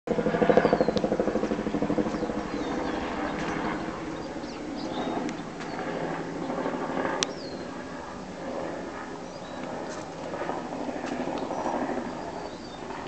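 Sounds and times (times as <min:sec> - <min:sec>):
helicopter rotor beating: 0:00.1 - 0:13.0.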